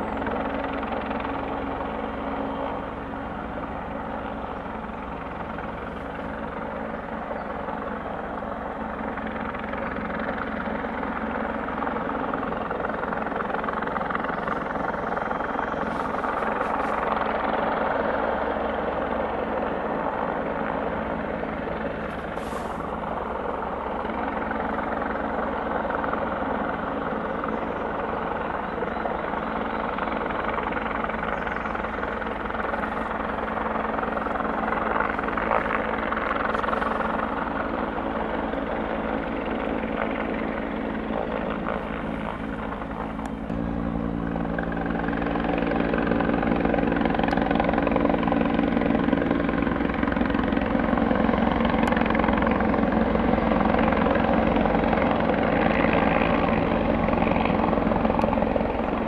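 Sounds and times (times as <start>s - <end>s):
helicopter rotors and engines: 0.0s - 59.0s.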